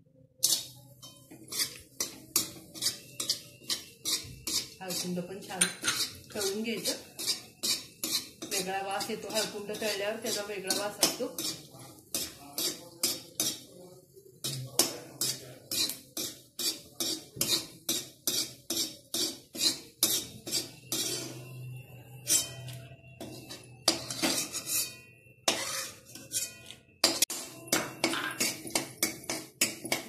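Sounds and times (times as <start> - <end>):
spoon scraping metal pan: 0.4 - 30.0.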